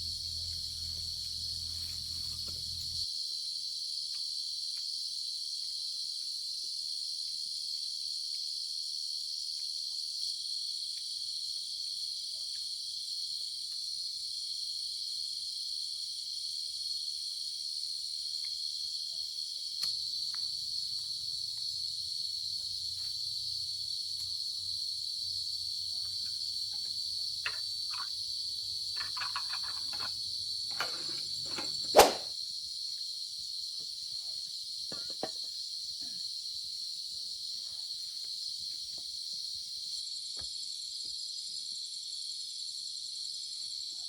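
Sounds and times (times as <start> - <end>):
crickets chirring: 0.0 - 44.0.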